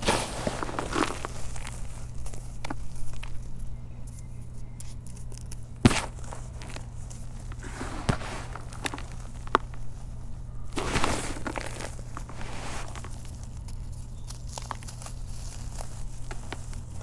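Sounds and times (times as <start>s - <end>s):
hands crumbling chalk: 0.0s - 17.0s
steady low hum: 0.0s - 17.0s.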